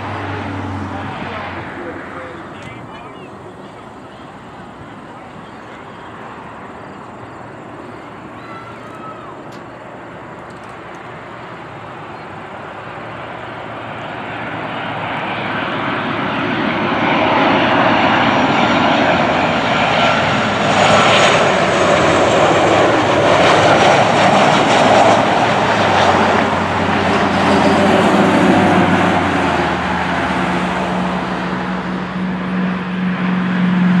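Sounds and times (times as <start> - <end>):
jet plane passing low: 0.0 - 34.0.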